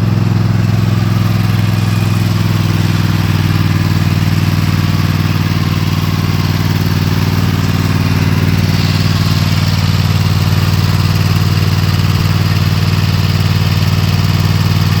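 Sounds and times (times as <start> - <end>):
mower engine running steadily: 0.0 - 15.0.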